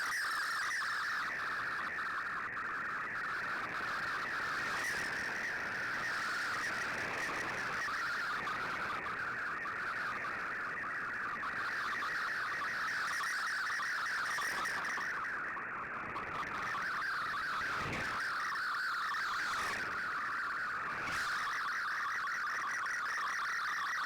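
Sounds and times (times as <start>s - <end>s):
rapidly shifting electronic data tones: 0.0s - 24.0s.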